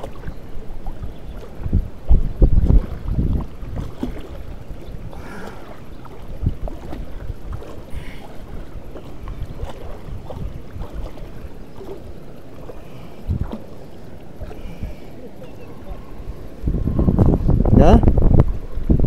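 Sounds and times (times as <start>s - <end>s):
small waves lapping and splashing: 0.0s - 19.0s.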